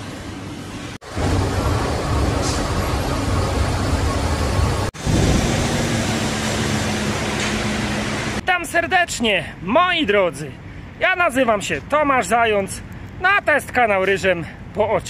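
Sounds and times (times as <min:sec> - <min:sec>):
road traffic rumble: 0:00.0 - 0:08.5, 0:10.2 - 0:14.9.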